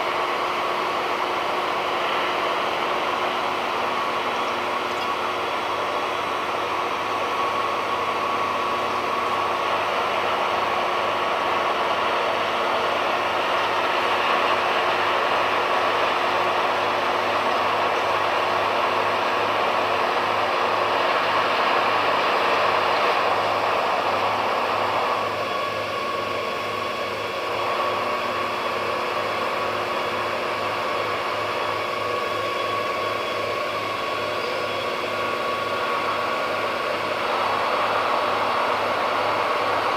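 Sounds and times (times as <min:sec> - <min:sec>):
ship engines humming: 0:00.0 - 0:39.9.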